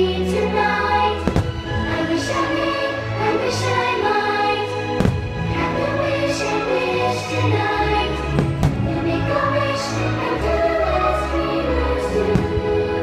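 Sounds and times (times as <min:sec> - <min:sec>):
orchestral music with choir: 0:00.0 - 0:13.0.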